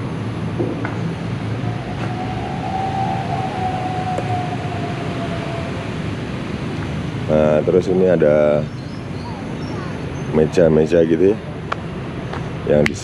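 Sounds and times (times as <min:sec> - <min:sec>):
faint steady whine: 0:00.0 - 0:13.0
road traffic rumble: 0:00.0 - 0:13.0.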